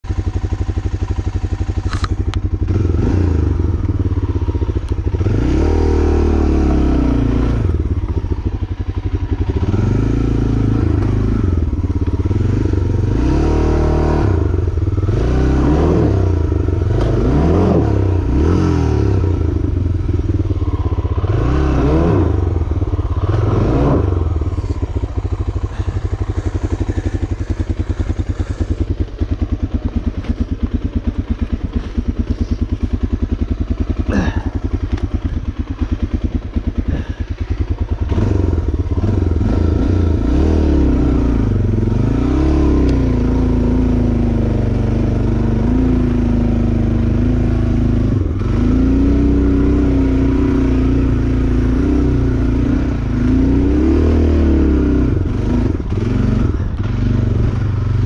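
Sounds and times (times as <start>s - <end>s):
vehicle engine revving: 0.1s - 58.0s.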